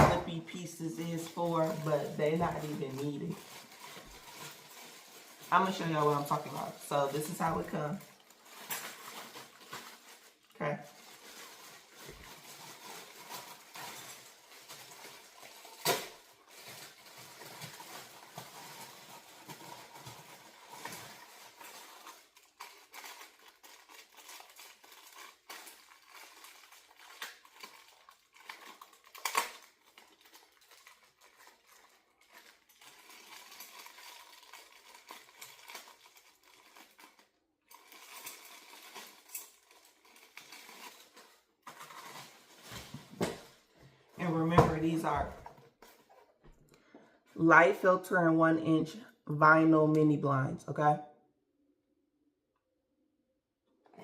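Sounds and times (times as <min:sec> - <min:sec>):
packaging rustling: 0:00.4 - 0:47.0.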